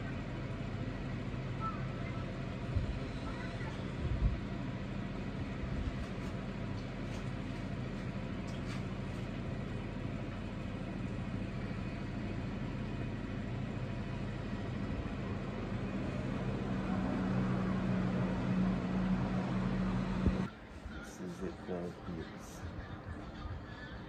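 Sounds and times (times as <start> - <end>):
mechanical hum with low drone: 0.0 - 24.0.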